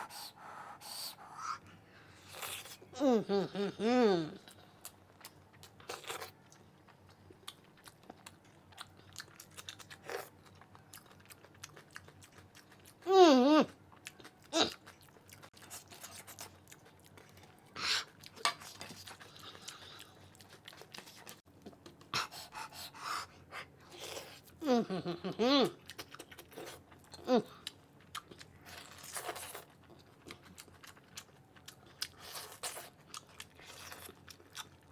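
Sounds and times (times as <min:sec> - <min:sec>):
close chewing and crunching: 0:04.2 - 0:34.9.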